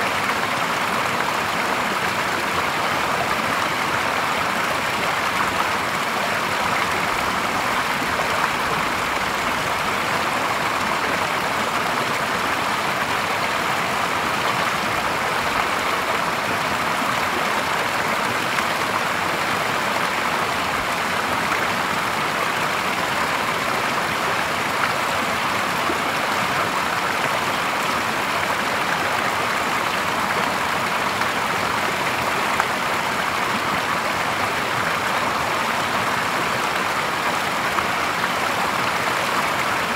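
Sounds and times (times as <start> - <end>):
stream water splashing and gurgling: 0.0 - 39.9.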